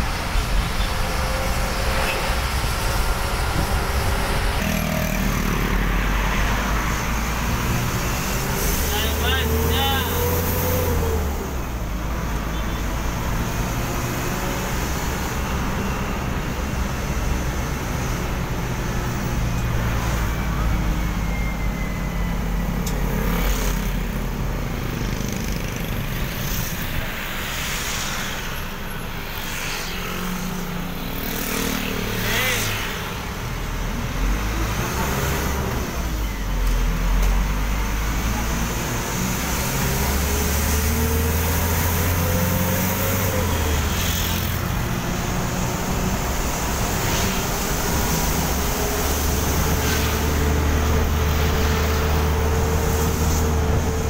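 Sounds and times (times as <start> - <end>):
tyre and road noise: 0.0 - 54.0.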